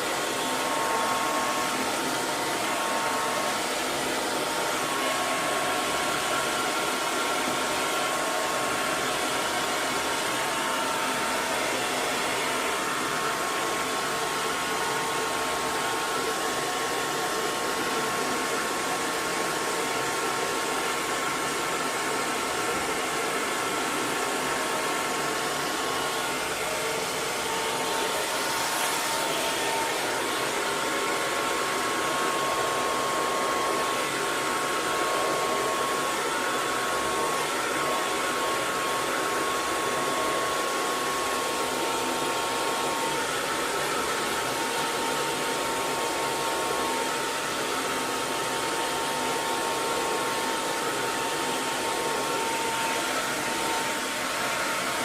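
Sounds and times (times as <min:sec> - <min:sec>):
hair dryer blowing: 0:00.0 - 0:55.0
hair dryer motor whine: 0:00.0 - 0:55.0.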